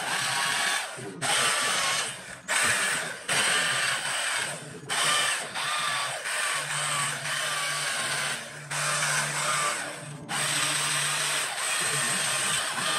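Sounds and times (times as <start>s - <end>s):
power carving tool grinding wood: 0.0s - 12.9s.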